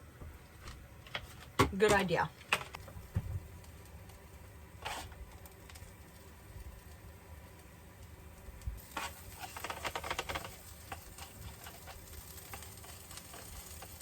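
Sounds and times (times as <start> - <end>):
toasties sizzling in a pan: 2.8 - 14.0.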